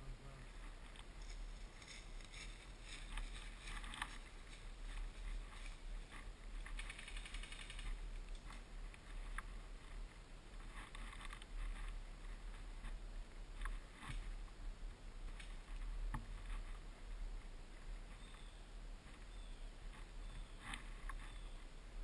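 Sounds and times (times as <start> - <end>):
low steady rumble: 0.0 - 22.0
rustling of vegetation and clothing: 0.0 - 22.0.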